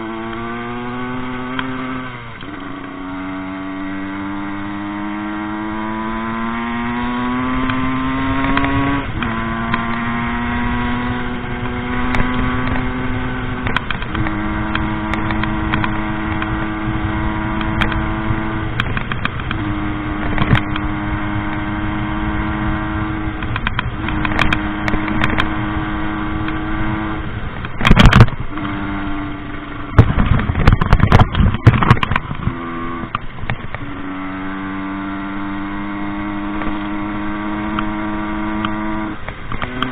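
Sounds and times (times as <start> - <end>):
two-stroke motorcycle engine: 0.0 - 39.9.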